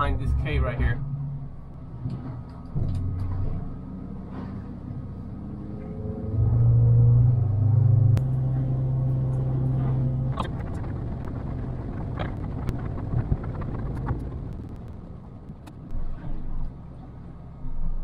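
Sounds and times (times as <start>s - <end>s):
outboard motor droning: 0.0s - 18.0s.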